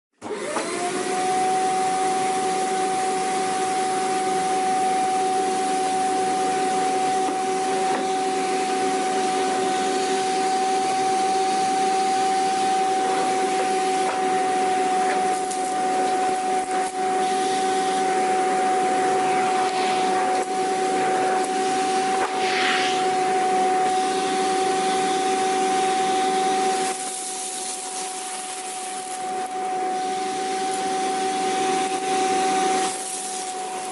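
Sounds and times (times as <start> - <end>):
vacuum cleaner motor whining: 0.2 - 33.9.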